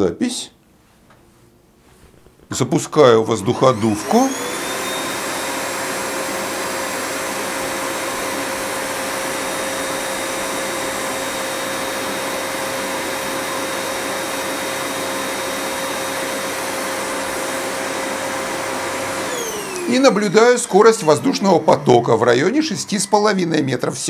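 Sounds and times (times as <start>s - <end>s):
electric air blower running: 2.3s - 24.0s.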